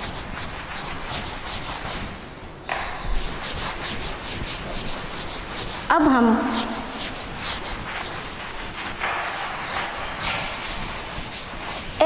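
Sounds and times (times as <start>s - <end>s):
duster wiping a board: 0.0s - 2.1s, 3.1s - 12.0s.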